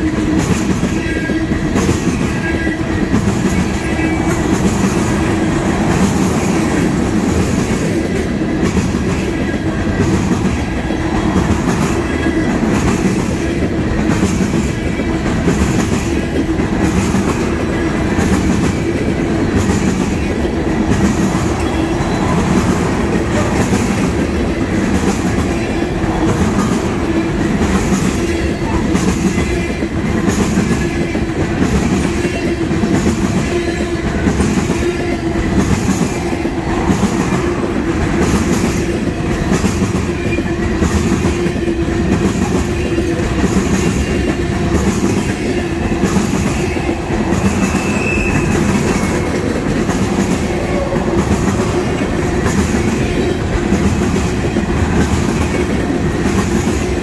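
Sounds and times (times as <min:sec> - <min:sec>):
train wheels rumbling on rails: 0:00.0 - 0:57.0
wheels clickety-clack on rail joints: 0:00.0 - 0:57.0.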